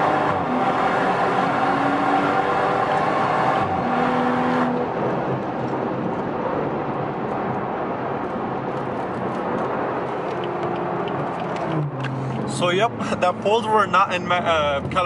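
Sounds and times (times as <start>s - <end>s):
car engine cruising: 0.0s - 15.0s
road and wind noise: 0.0s - 15.0s.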